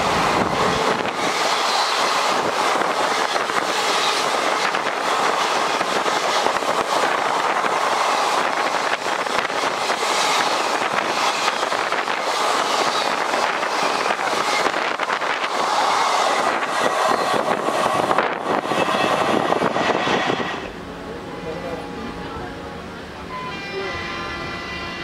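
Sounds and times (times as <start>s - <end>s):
train coaches rushing past: 0.0s - 25.0s.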